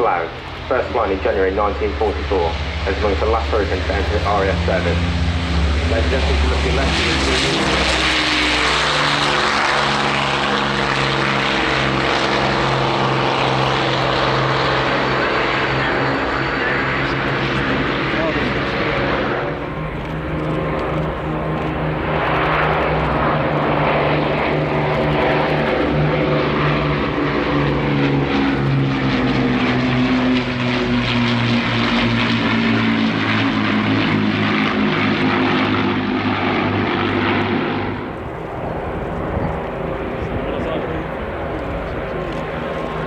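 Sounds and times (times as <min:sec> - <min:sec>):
propeller plane flying past: 0:00.0 - 0:43.0.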